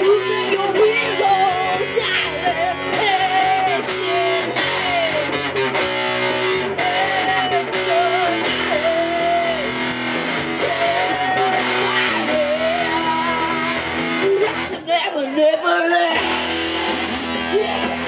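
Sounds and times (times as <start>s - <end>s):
live rock electric guitar: 0.0s - 18.0s.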